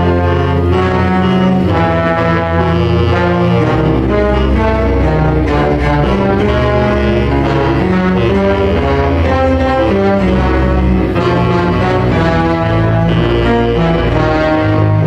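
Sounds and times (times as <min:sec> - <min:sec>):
orchestral strings and brass: 0:00.0 - 0:15.0.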